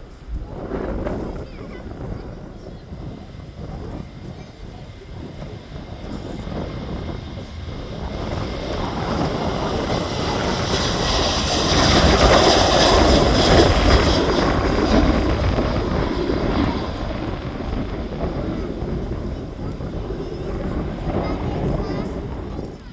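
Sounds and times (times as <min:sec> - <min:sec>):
jet airliner taking off: 0:00.0 - 0:22.9.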